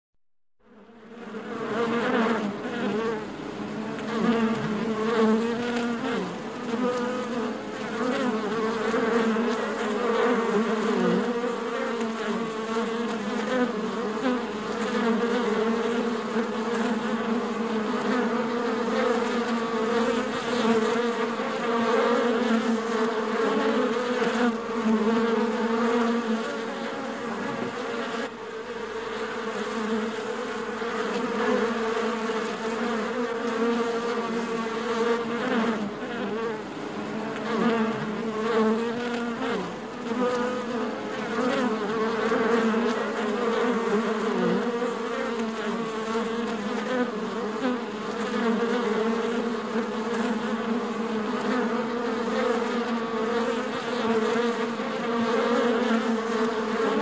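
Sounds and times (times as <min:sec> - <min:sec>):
honeybees buzzing at a hive: 0:00.7 - 0:57.0.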